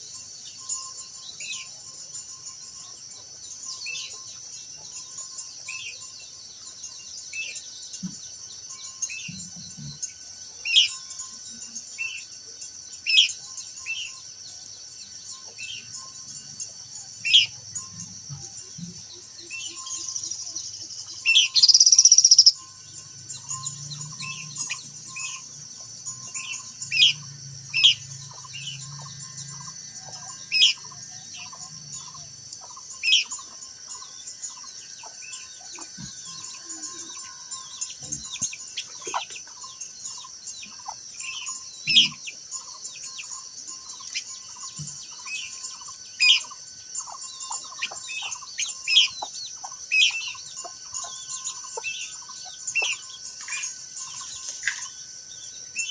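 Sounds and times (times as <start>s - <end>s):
small songbirds chirping: 0.0s - 55.9s.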